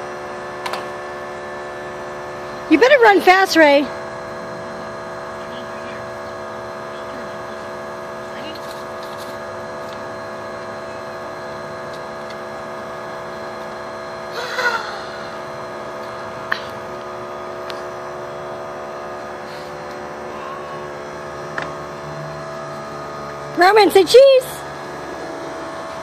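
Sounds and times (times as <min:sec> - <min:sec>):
steady hum with held tones: 0:00.0 - 0:26.0.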